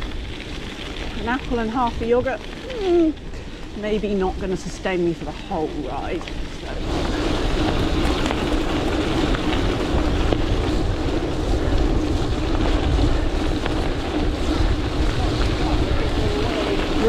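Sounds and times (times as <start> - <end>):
bike tyres rolling on gravel: 0.0 - 17.0
grit ticking: 0.0 - 17.0
wind buffeting microphone: 0.0 - 17.0.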